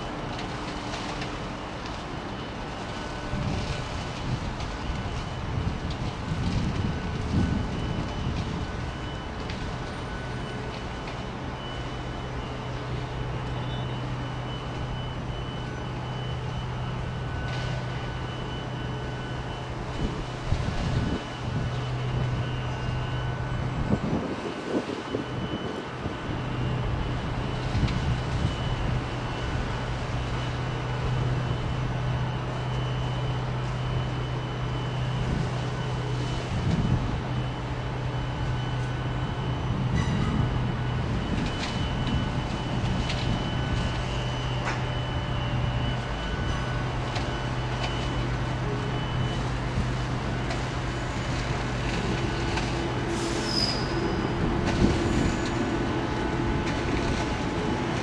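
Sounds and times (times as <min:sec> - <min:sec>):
diesel train engines droning: 0:00.0 - 0:58.0.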